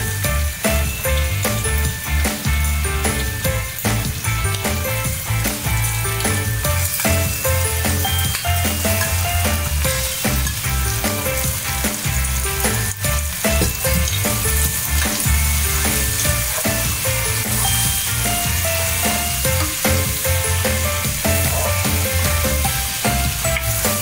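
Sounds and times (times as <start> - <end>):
background music with bass line: 0.0 - 24.0
food sizzling in a pan: 0.0 - 24.0.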